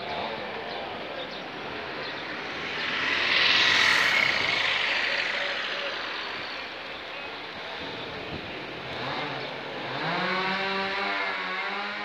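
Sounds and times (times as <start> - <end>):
engine speeding up: 0.0 - 12.0
street traffic: 0.0 - 12.0.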